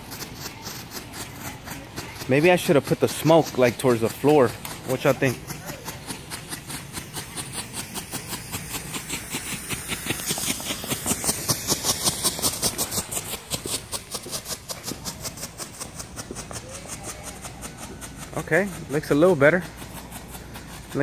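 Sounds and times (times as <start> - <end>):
firework strobe pops: 0.0 - 21.0
smoke device hissing: 0.0 - 21.0.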